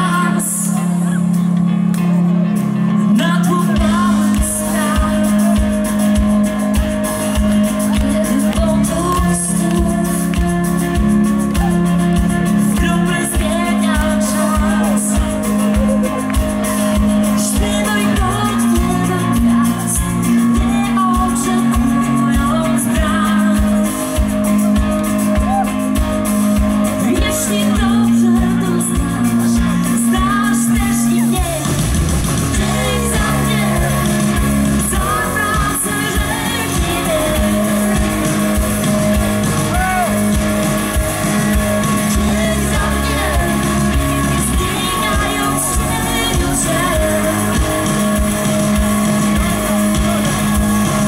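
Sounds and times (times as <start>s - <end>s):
woman singing: 0.0s - 1.4s, 3.0s - 25.7s, 26.9s - 31.8s, 32.5s - 50.2s
live rock band playing: 0.0s - 51.0s.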